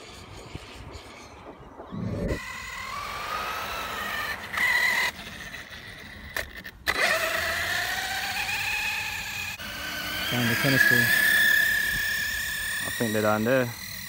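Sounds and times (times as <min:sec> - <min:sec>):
electric toy truck motor whining: 0:02.0 - 0:14.0.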